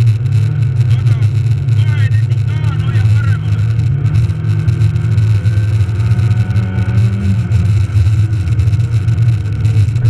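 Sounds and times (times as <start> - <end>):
car engine running under load: 0.0 - 10.0.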